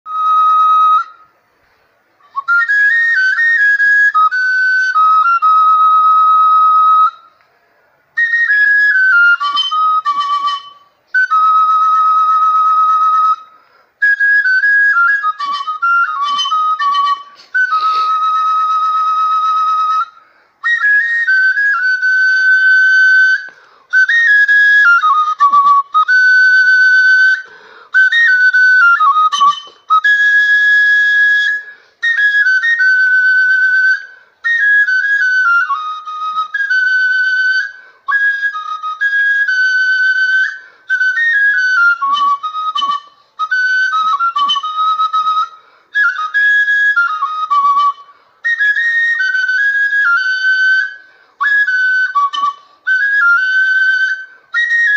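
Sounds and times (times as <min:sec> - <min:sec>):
wooden flute melody: 0:00.1 - 0:54.9.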